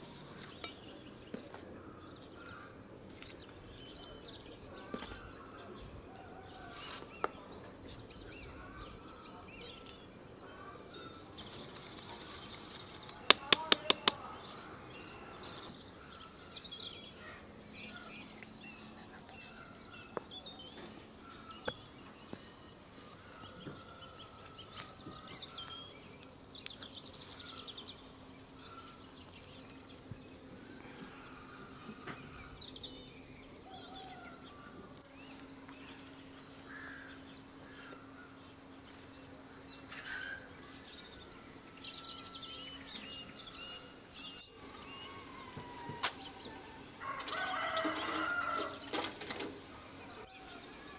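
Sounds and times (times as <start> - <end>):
faint steady hum: 0.0 - 50.9
small birds chirping: 0.0 - 50.9.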